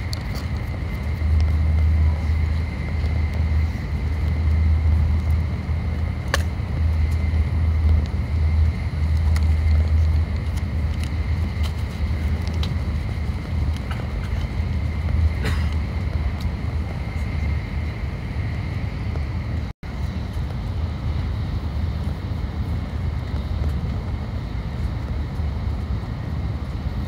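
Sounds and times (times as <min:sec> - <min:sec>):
train interior low rumble: 0:00.0 - 0:27.0.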